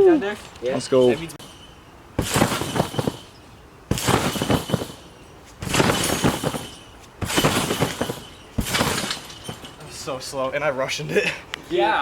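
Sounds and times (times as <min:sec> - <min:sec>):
trampoline springs rattling: 0:00.1 - 0:11.0.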